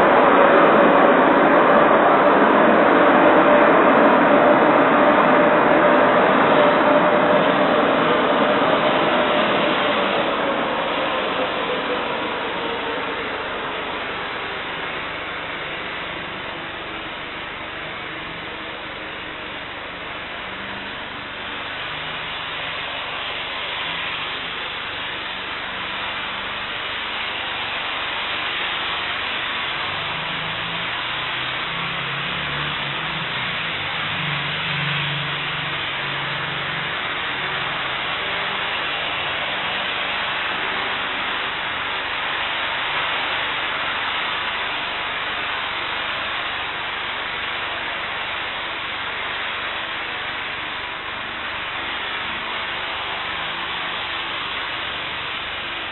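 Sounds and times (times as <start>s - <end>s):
distant jet engines roaring: 0.0s - 55.9s.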